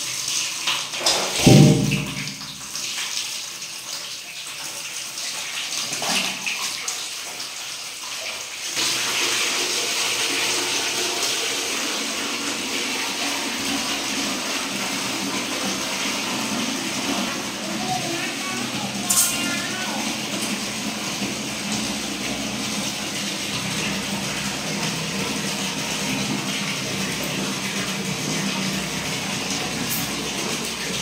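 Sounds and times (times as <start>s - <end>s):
water running into bathtub: 0.0s - 31.0s.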